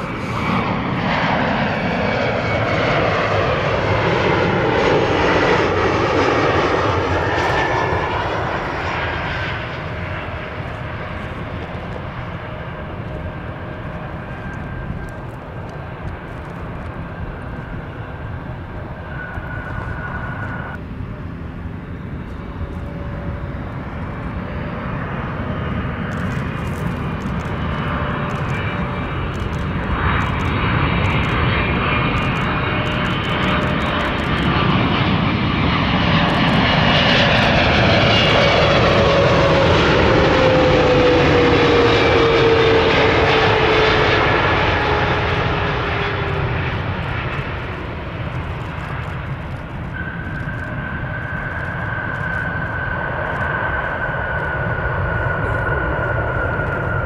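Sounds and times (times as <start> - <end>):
distant jet engines: 0.0 - 57.0
jet engines passing close: 0.0 - 57.0.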